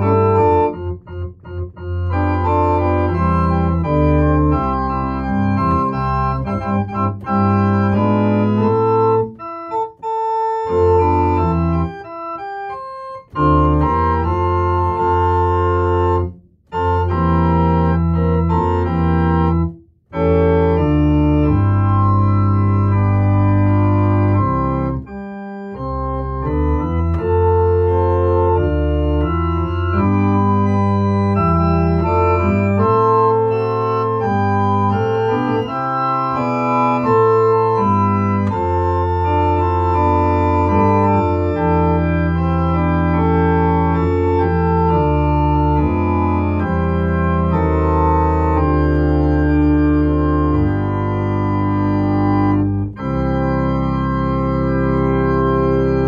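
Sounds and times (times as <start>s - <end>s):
church organ playing a hymn: 0.0s - 56.0s
deep organ pedal bass: 0.0s - 56.0s.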